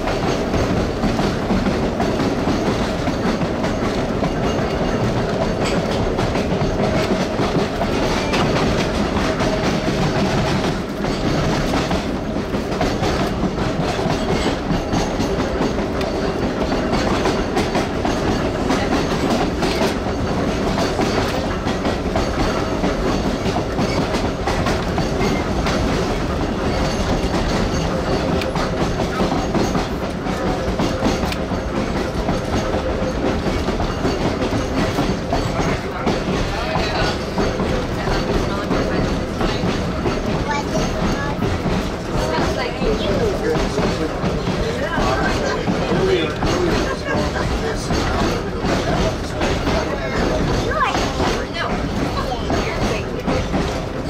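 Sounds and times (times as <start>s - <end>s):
train running noise: 0.0s - 54.0s
wheels clacking over rail joints: 0.0s - 54.0s.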